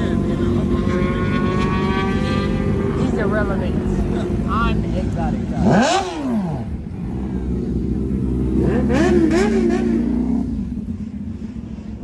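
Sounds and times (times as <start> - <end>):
car engine revving: 0.0 - 11.1.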